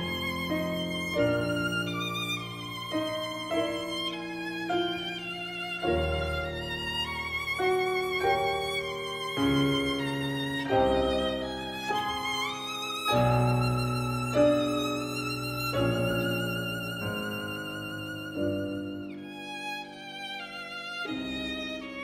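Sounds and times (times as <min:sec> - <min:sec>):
slow violin melody: 0:00.0 - 0:22.0.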